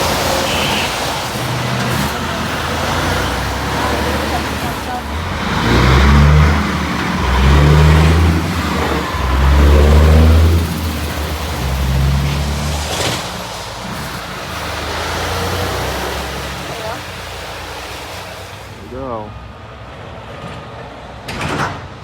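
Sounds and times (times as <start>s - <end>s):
truck engine accelerating: 0.0s - 21.3s.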